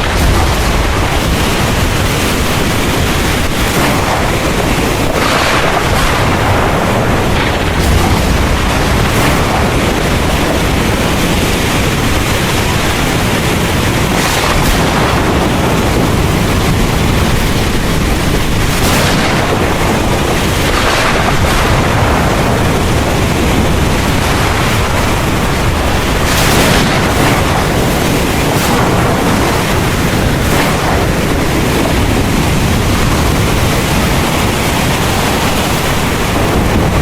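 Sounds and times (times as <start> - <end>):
deep rumble of thunder: 0.0 - 37.0
heavy rain pouring: 0.0 - 37.0.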